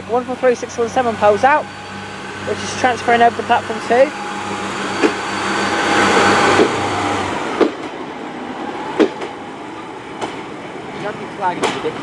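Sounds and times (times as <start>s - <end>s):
diesel train engine: 0.0s - 12.0s.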